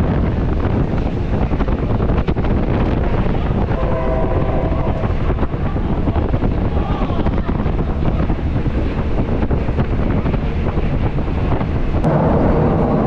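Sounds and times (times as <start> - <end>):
train wheels and carriage rattling: 0.0 - 13.0
wind buffeting the microphone: 0.0 - 13.0.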